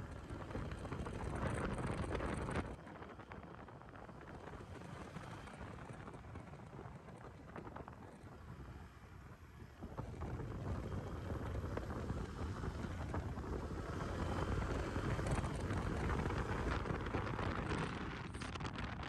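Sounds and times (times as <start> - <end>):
motorcycle road noise: 0.0 - 19.0
wind buffeting microphone: 0.0 - 19.0.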